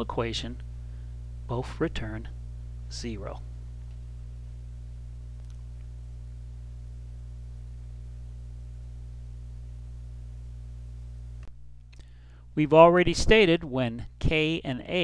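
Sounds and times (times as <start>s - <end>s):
low electrical hum with hiss: 0.0s - 15.0s.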